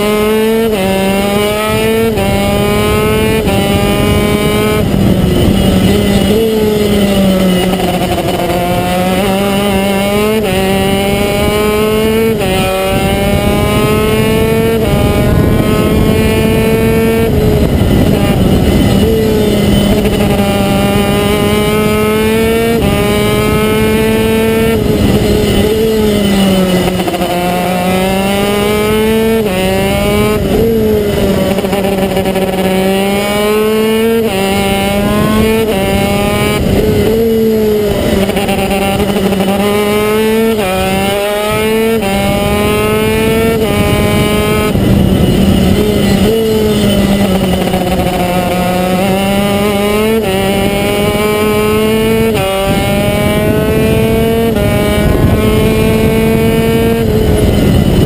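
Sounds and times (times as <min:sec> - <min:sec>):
kart engine revving through gears: 0:00.0 - 0:58.0.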